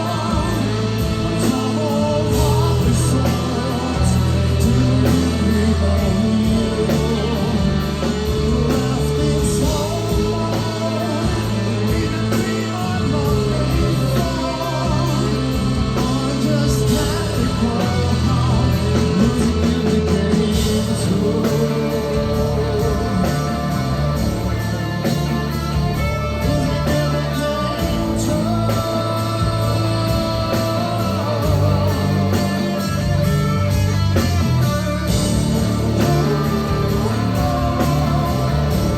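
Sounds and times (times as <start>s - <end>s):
live rock band playing: 0.0s - 38.9s
person singing: 0.0s - 38.9s.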